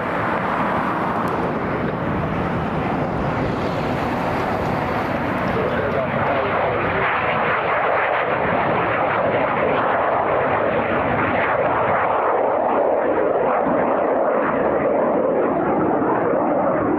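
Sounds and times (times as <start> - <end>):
jet engine roar at takeoff: 0.0 - 16.9.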